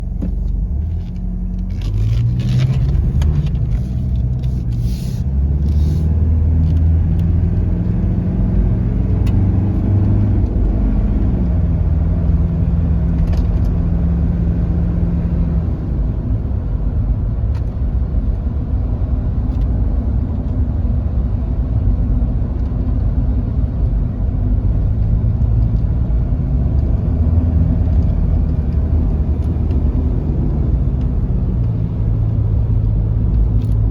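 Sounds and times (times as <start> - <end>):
diesel engine rumble: 0.0 - 33.9.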